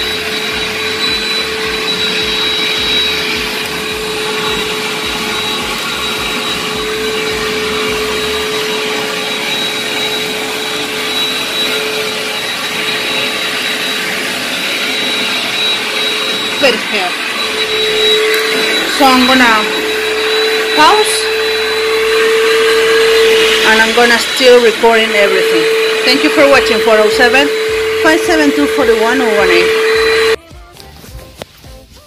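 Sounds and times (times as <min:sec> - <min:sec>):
backpack vacuum running: 0:00.0 - 0:30.4.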